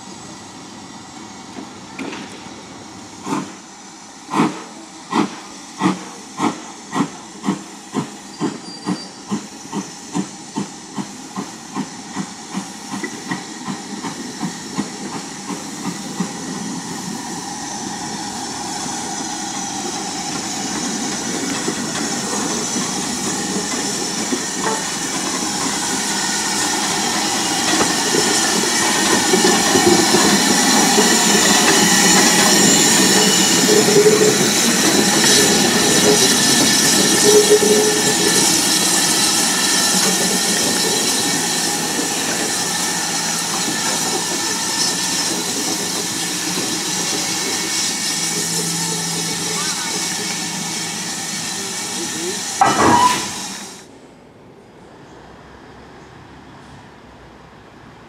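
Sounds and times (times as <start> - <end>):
steam hissing: 0.0 - 53.9
steam locomotive exhaust beats: 1.5 - 53.8
locomotive rumble: 6.0 - 53.8.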